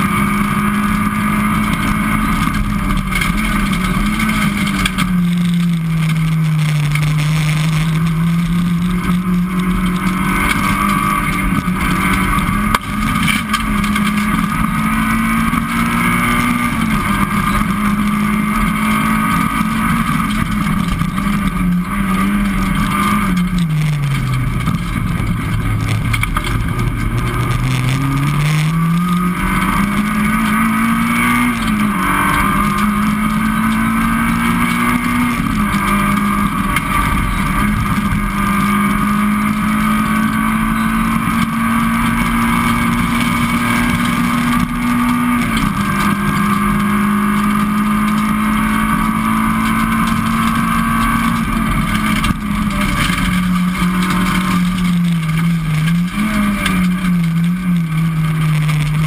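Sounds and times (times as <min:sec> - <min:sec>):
rally car engine: 0:00.0 - 0:59.0
road noise: 0:00.0 - 0:59.0.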